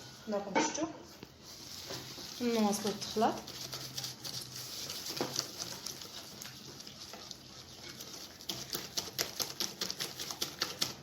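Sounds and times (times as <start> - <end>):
utensil scraping and clicking bowl: 1.8 - 11.0.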